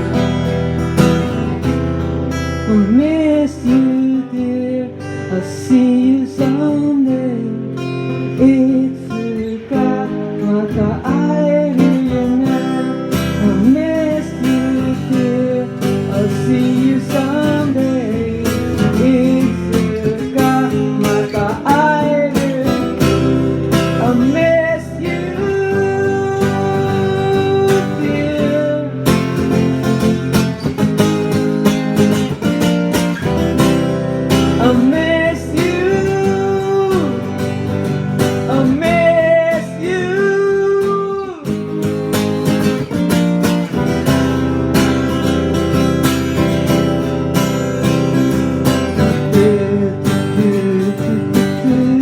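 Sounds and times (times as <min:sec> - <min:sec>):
strummed acoustic guitar: 0:00.0 - 0:52.0.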